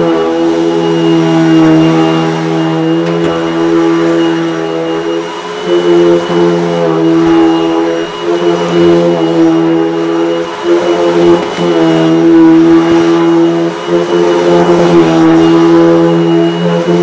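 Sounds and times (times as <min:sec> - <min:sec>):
vacuum cleaner motor hum: 0:00.0 - 0:17.0.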